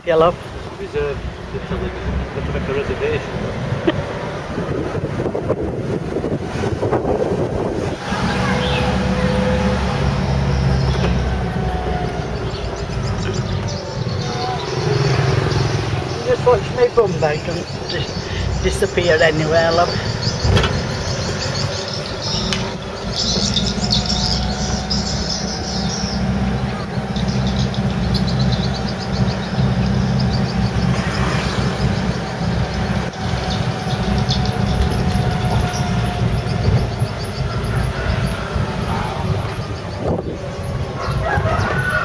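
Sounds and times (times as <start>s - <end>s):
birds chirping: 0.0s - 42.0s
truck engine and road noise: 0.0s - 42.0s.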